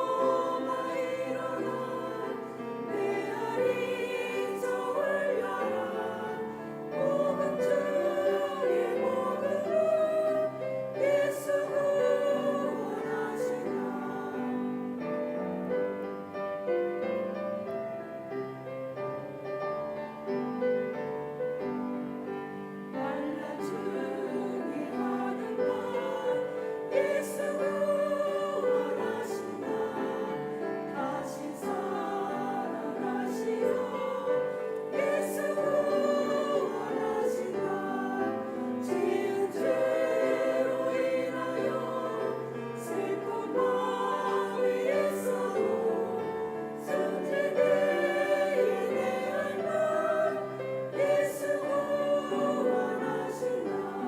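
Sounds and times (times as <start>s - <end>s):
choir singing hymn: 0.0s - 54.0s
piano accompaniment: 0.0s - 54.0s.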